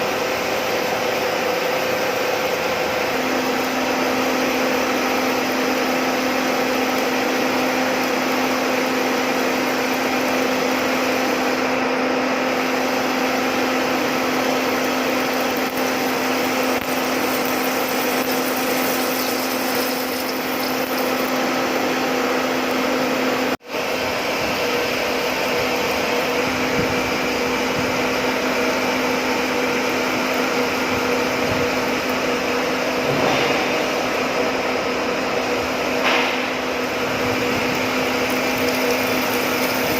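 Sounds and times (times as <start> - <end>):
machine tool whirring with whine: 0.0 - 39.9.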